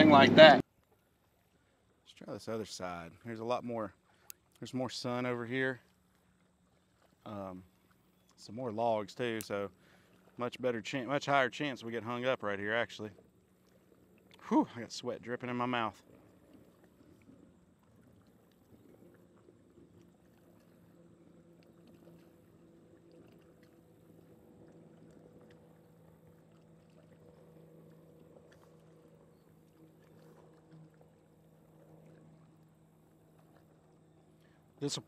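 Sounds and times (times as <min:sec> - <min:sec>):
faint boat motor hum: 0:00.0 - 0:35.0.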